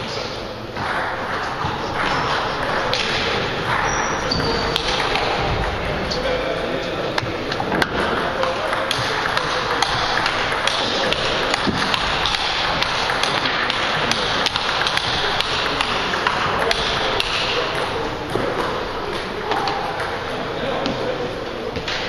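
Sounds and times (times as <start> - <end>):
hall background noise: 0.0 - 22.0.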